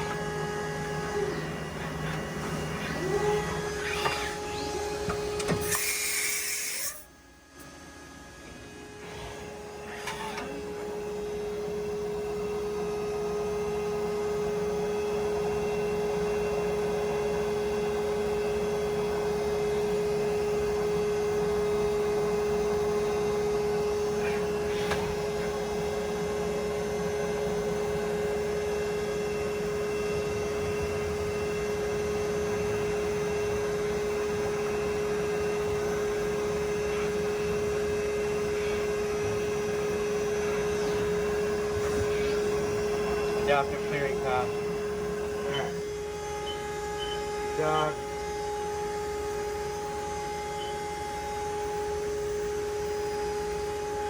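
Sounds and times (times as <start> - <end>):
milling machine spindle whine: 0.0 - 54.0.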